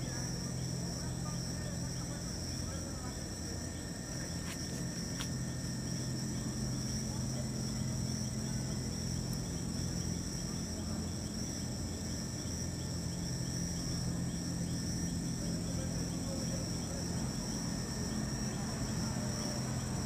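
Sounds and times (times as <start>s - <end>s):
crickets trilling: 0.0s - 20.0s
low steady hum: 0.0s - 20.0s.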